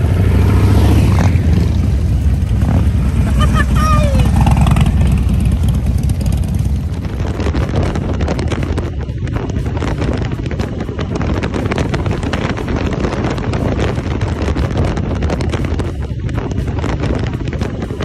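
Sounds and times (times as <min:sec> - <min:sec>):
motorcycle engine: 0:00.0 - 0:18.0
wind noise on microphone: 0:00.0 - 0:18.0.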